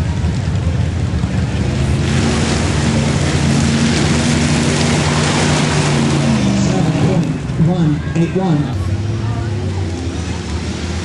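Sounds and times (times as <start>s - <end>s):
rushing noise: 0.0s - 11.0s
truck engine running hard: 0.0s - 11.0s.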